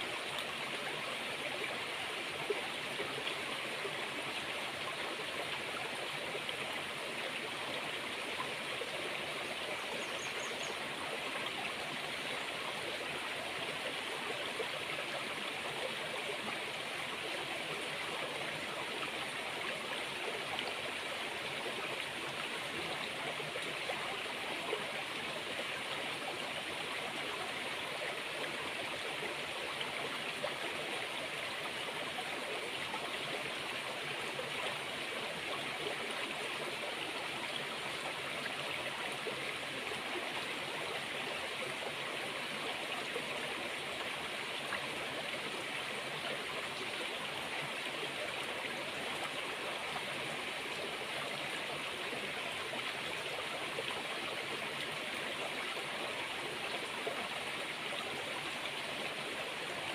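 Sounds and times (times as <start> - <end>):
stream water running: 0.0 - 59.9.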